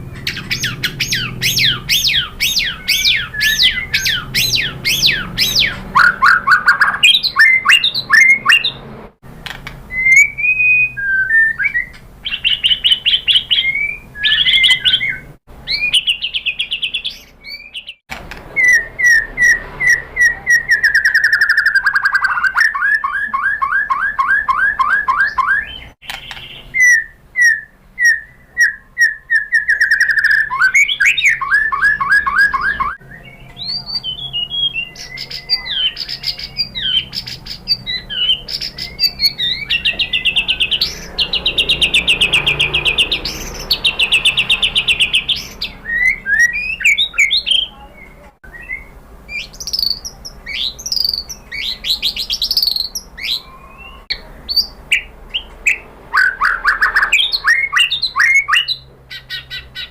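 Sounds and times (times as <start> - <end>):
bird singing whistles and trills: 0.0 - 8.8, 9.9 - 18.0, 18.6 - 59.9.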